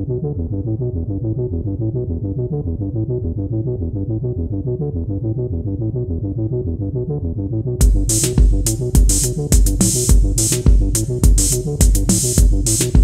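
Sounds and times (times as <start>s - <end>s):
synthesizer playing low notes: 0.0s - 13.0s.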